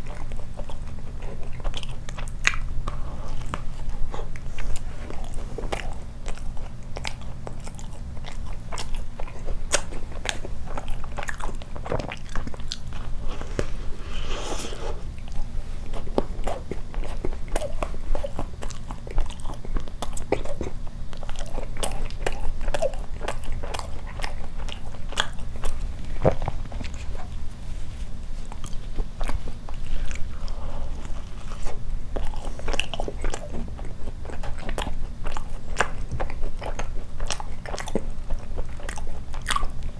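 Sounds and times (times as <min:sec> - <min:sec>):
chewing doughnut mouth clicks: 0:00.0 - 0:13.7, 0:15.2 - 0:27.4, 0:28.5 - 0:39.9
constant low hum: 0:00.0 - 0:39.9.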